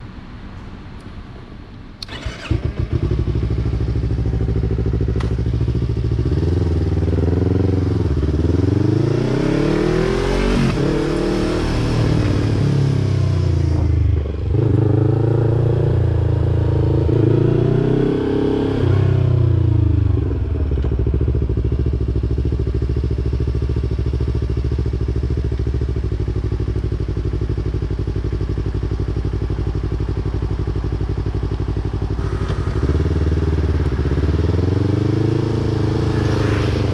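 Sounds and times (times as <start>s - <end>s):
motorcycle engine revving: 2.0s - 36.9s.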